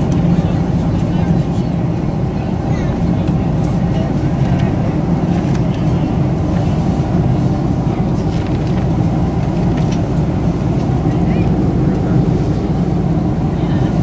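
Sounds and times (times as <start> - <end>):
airplane cabin engine roar: 0.0 - 14.0.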